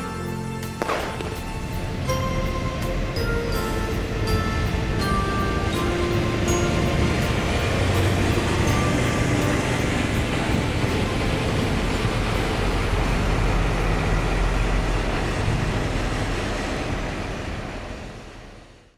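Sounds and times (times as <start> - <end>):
truck diesel engine passing: 0.0 - 18.9.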